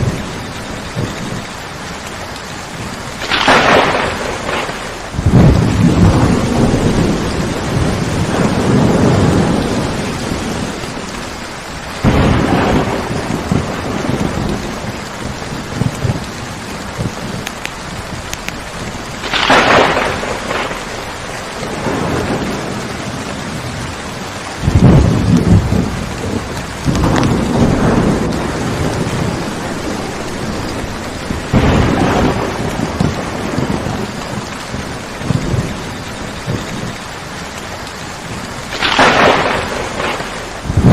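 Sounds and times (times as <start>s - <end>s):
steady rain: 0.0s - 40.9s
thunder rumbling: 0.0s - 40.9s
sharp thunder crack: 3.2s - 11.0s, 12.0s - 17.5s, 18.1s - 23.8s, 24.6s - 37.0s, 38.6s - 40.9s.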